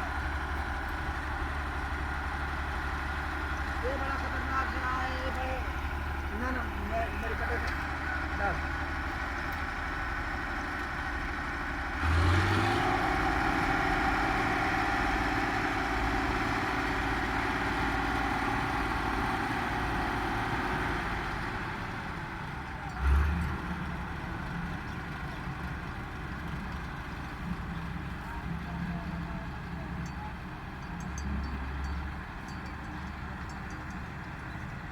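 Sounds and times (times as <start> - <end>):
farm machine engine running: 0.0 - 34.9.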